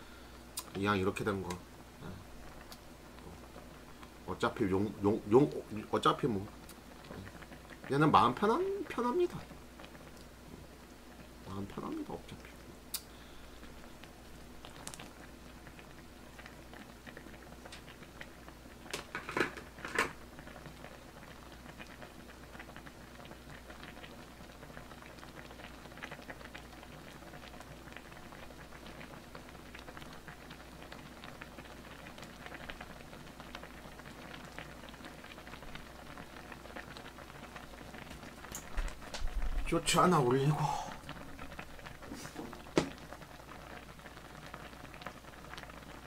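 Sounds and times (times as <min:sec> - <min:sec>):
sauce bubbling and popping: 0:01.4 - 0:46.0.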